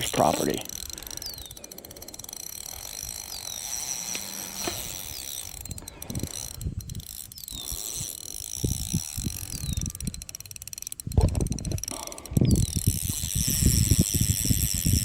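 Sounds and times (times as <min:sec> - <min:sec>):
fishing reel ratcheting: 0:00.0 - 0:15.0.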